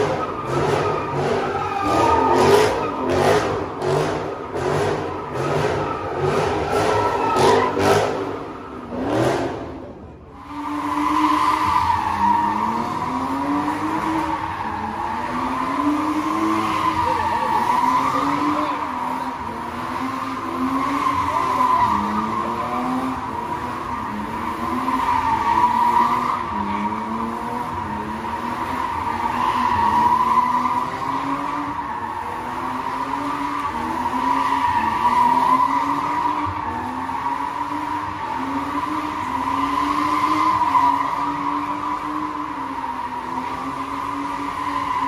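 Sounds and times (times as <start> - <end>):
car engine at high revs: 0.0 - 45.0.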